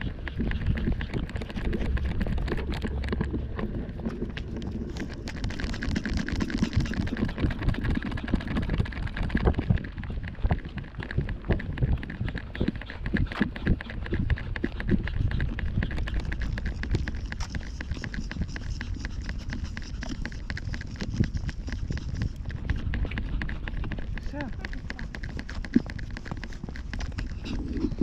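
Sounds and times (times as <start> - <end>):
camera knocking and rattling: 0.0 - 28.0
wind noise on microphone: 0.0 - 28.0.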